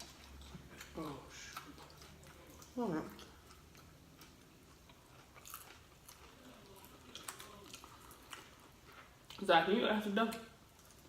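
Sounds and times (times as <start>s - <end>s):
chewing and lip smacking: 0.0s - 9.4s.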